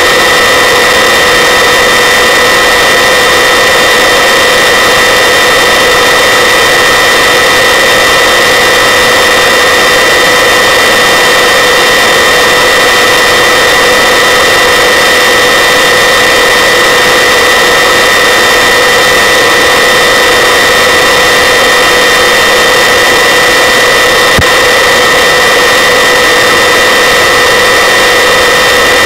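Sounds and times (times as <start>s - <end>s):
helicopter engine and rotor: 0.0s - 29.0s.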